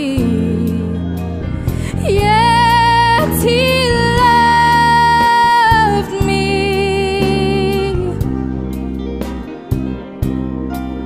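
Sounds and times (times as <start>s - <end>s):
slow gospel song: 0.0s - 11.0s.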